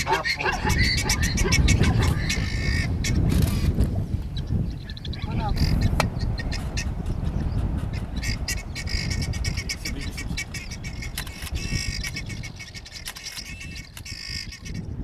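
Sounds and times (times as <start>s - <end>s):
birds chirping and squawking: 0.0s - 15.0s
steady low rumble: 0.0s - 15.0s.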